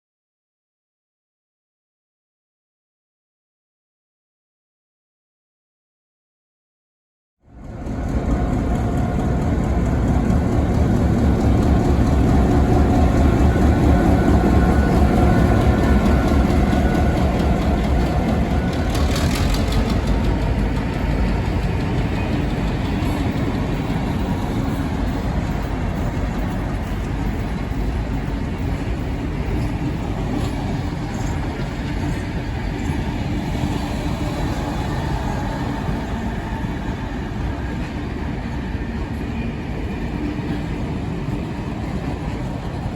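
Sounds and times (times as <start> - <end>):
steam train rumbling: 7.5 - 42.9.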